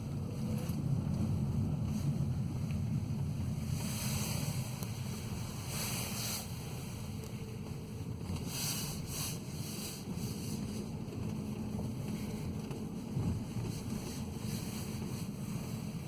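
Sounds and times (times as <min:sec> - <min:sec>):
car cabin low rumble: 0:00.0 - 0:16.0.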